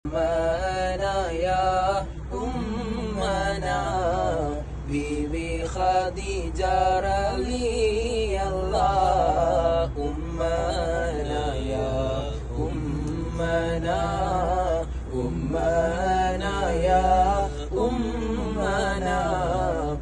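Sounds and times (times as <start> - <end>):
men chanting devotional recitation: 0.0 - 20.0.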